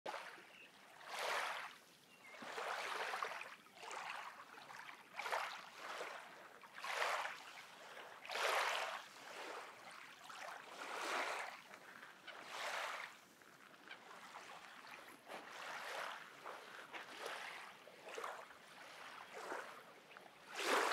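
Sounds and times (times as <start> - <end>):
small waves washing onto sand: 0.1 - 20.9.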